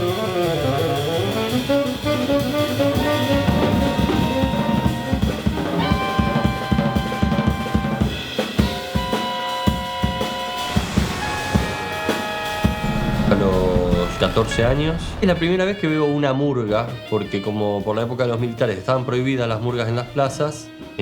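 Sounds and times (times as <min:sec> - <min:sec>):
busy drum kit: 0:00.0 - 0:21.0
jazz ensemble playing: 0:00.0 - 0:21.0.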